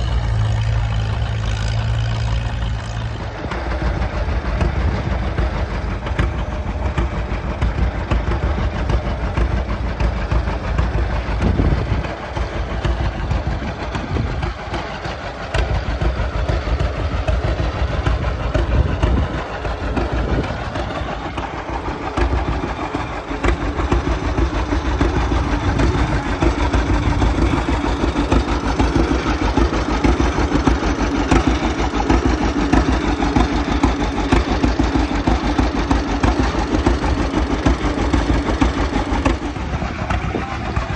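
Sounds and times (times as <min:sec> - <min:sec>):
tractor engine running under load: 0:00.0 - 0:40.9.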